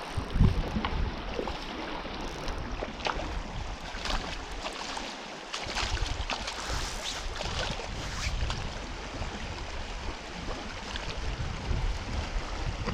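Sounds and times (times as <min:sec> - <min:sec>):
wind rumbling on microphone: 0:00.0 - 0:04.7, 0:05.5 - 0:12.9
river water rushing and splashing: 0:00.0 - 0:12.9.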